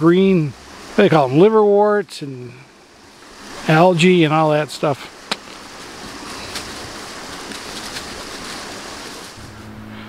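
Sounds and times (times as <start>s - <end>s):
creek water rushing: 0.0s - 10.0s
low steady hum: 0.0s - 10.0s.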